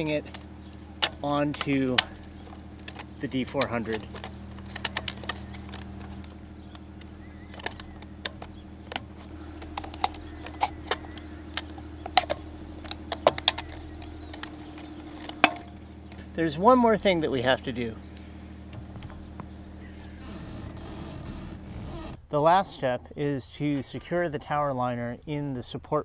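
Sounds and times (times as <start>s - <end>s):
nose cone clicking onto rotor hub: 0.0s - 22.2s
steady low hum: 0.0s - 26.0s.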